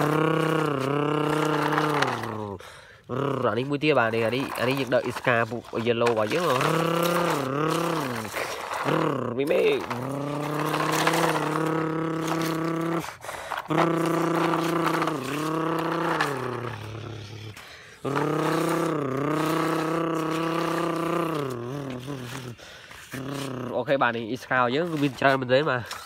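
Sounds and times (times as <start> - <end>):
person imitating truck engine: 0.0 - 24.2.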